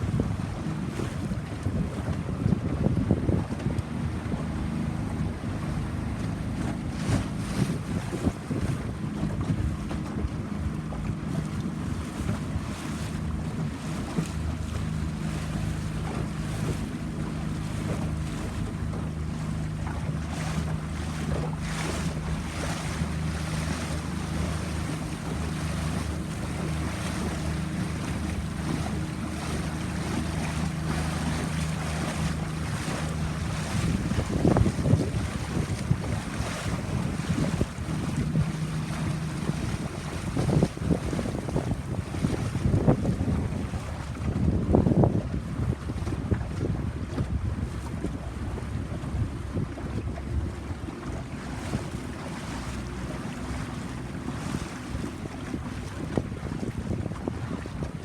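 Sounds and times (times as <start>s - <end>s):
boat engine running: 0.0s - 58.0s
water rushing past hull: 0.0s - 58.0s
wind buffeting microphone: 0.0s - 58.0s.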